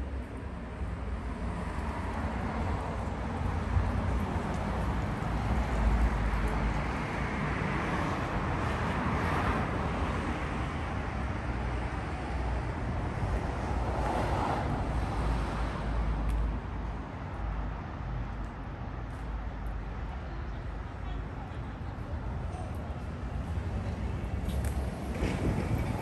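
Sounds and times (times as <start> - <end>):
cars passing: 0.5 - 26.0.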